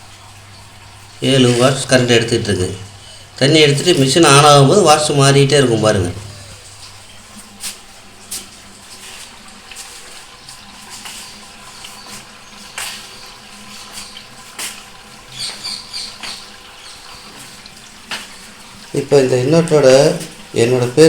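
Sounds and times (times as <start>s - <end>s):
washing machine motor hum: 0.0s - 21.0s
water running in: 0.0s - 21.0s.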